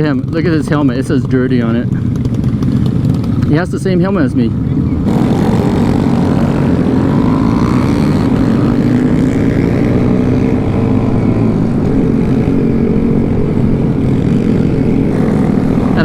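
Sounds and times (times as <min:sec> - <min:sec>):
small motorcycle engines droning: 0:00.0 - 0:16.0.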